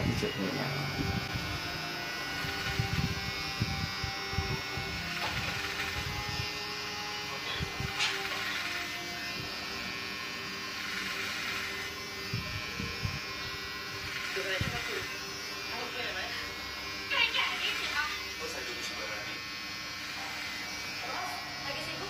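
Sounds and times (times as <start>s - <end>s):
electric hair clipper running: 0.0s - 22.0s
clipper blades rasping through hair: 0.9s - 22.0s.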